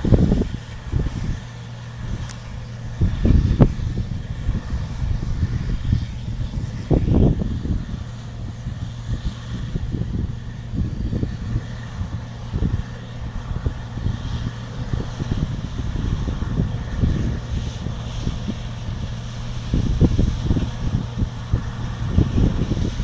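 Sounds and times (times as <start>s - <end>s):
combine harvester engine rumbling: 0.0s - 23.0s.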